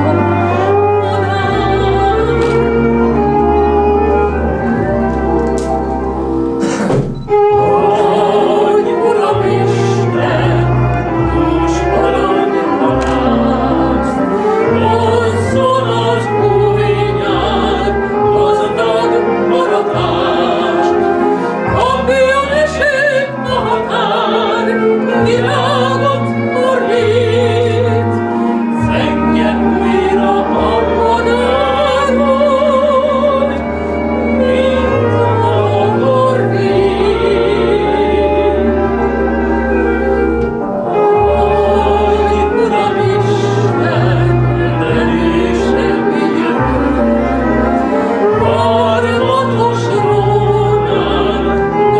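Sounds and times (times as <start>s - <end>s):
woman singing opera: 0.0s - 5.5s, 7.3s - 51.9s
instrumental accompaniment: 0.0s - 51.9s.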